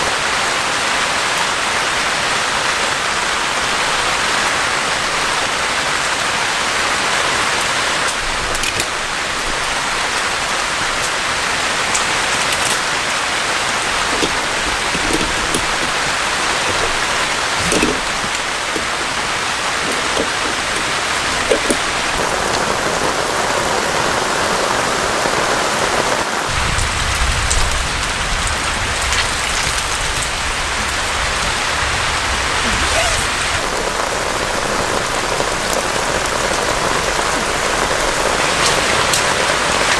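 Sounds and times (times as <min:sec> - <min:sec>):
heavy rain: 0:00.0 - 0:39.9
raindrops ticking: 0:00.0 - 0:39.9.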